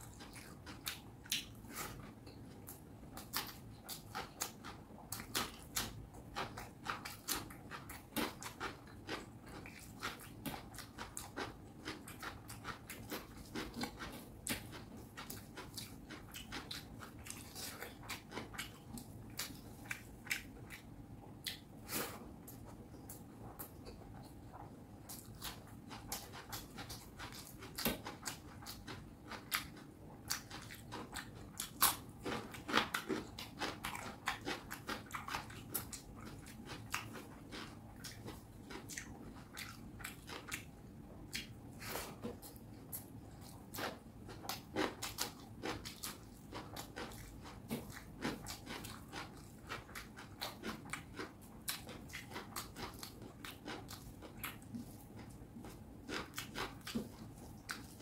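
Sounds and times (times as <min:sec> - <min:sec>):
wet chewing mouth sounds: 0:00.0 - 0:58.0.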